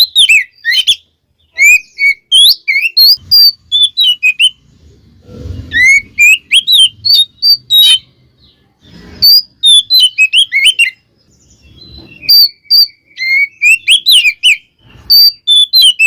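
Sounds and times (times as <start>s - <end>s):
bird singing whistled phrases: 0.0s - 4.6s, 5.7s - 8.0s, 9.2s - 16.0s.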